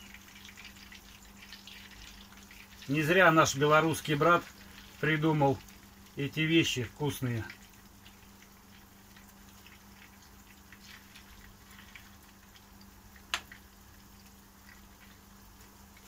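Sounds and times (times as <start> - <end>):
faint steady hum: 0.0 - 16.0
pancakes sizzling in oil: 0.0 - 16.0.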